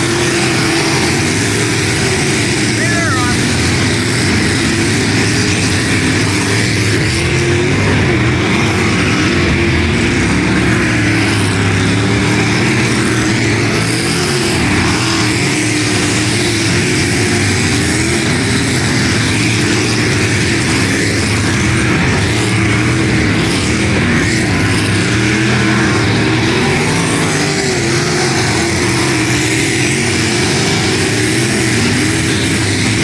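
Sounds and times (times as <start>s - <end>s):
race car engines: 0.0s - 33.0s.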